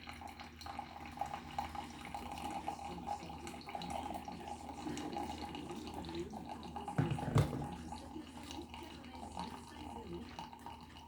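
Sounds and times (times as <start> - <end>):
water splashing into a vessel: 0.0 - 11.0.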